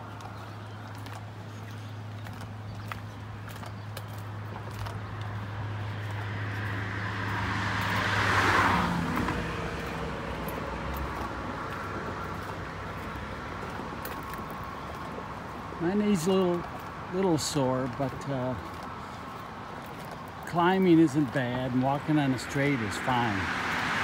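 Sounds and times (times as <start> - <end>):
steady traffic noise: 0.0 - 24.0
vehicle passing: 0.0 - 24.0.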